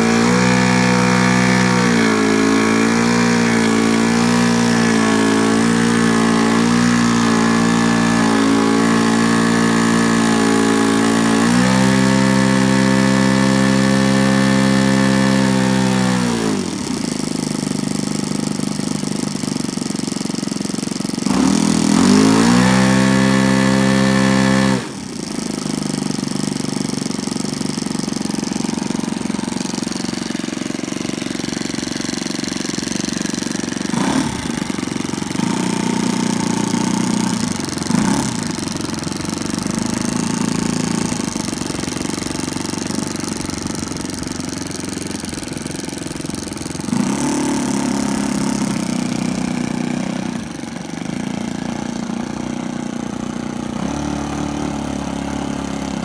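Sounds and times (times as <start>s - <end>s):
model plane engine running: 0.0s - 56.0s.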